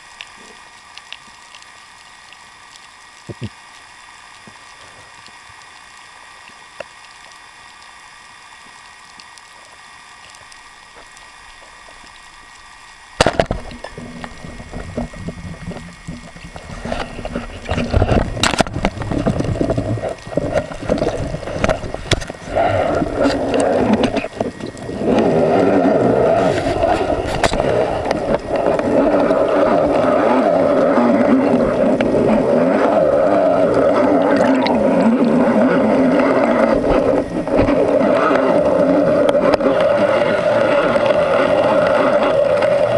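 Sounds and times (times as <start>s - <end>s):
water rushing over camera: 0.0s - 42.9s
water turbulence and knocks: 8.2s - 42.9s.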